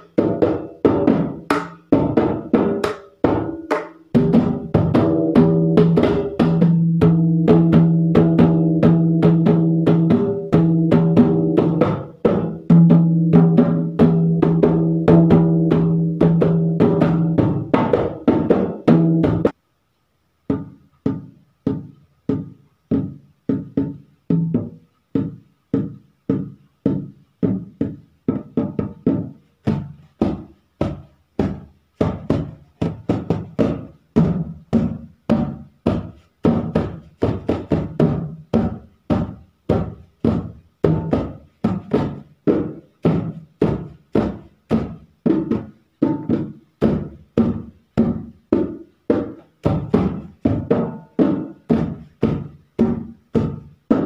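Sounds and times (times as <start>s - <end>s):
hand drum playing fast rhythm: 0.0s - 19.6s, 20.6s - 54.0s.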